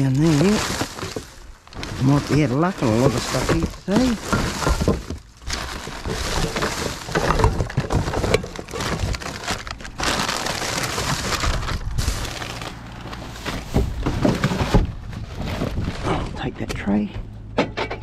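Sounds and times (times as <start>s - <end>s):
plastic packaging crinkling: 0.0s - 16.1s.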